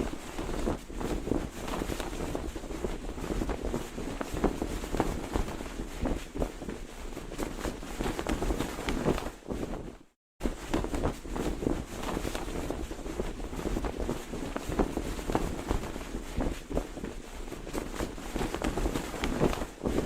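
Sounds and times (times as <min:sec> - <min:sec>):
flag flapping: 0:00.0 - 0:20.0.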